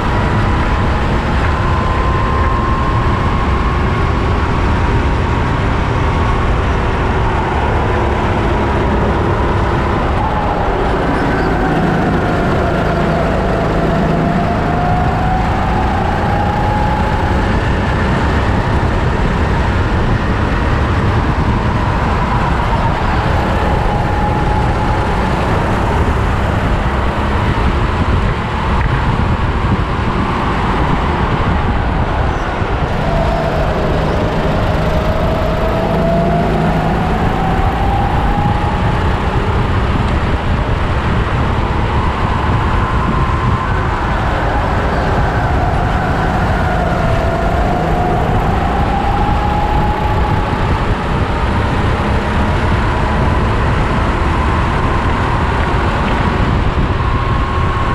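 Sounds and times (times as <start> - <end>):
go-kart engine revving: 0.0 - 57.9
low rumble of chassis and wind: 0.0 - 57.9.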